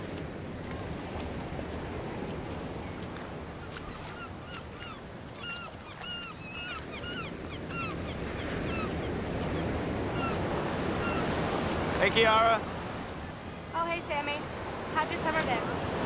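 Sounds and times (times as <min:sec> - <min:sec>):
small waves washing on beach: 0:00.0 - 0:16.0.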